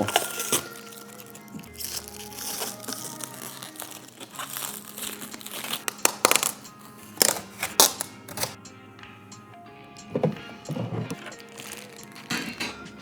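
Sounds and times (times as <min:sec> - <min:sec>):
plastic film peeling and crinkling: 0:00.0 - 0:08.6, 0:10.2 - 0:13.0
background music: 0:00.0 - 0:13.0.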